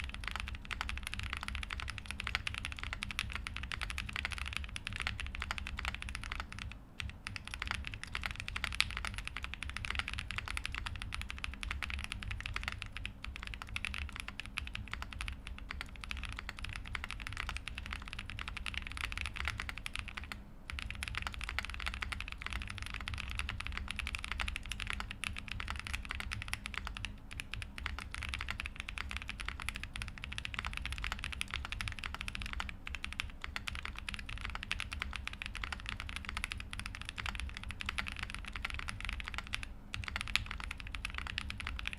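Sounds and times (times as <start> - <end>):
fast typing on mechanical keyboard: 0.0 - 41.9.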